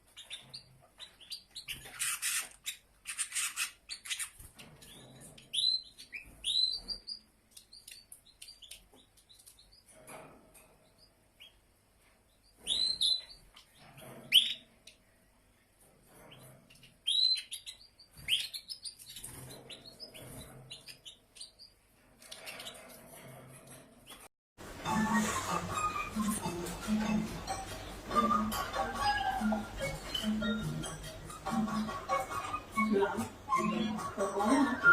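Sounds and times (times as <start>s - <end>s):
songbird chirping: 0.0s - 10.0s, 10.6s - 15.2s, 16.2s - 23.0s, 25.0s - 34.9s.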